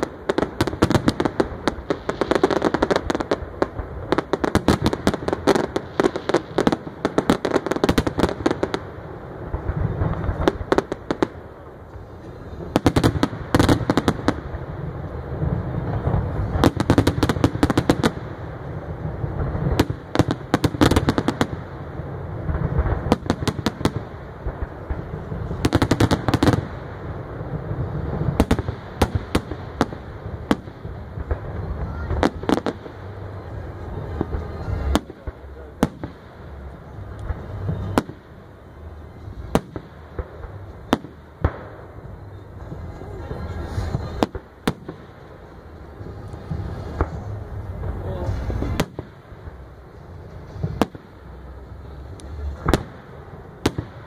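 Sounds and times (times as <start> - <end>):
firework bangs and crackling: 0.0 - 54.0.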